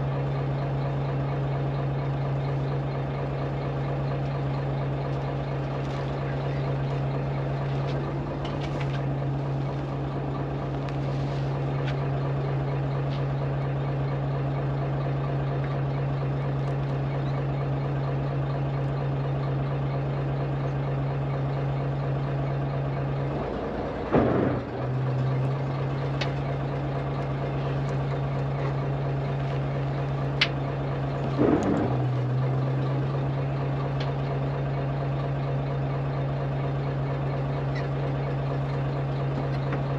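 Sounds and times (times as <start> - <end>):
boat engine idling: 0.0 - 39.9.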